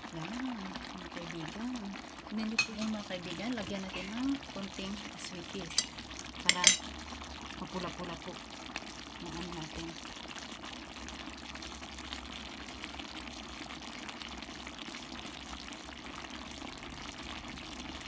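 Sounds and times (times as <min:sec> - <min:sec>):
sauce simmering and bubbling: 0:00.0 - 0:18.0.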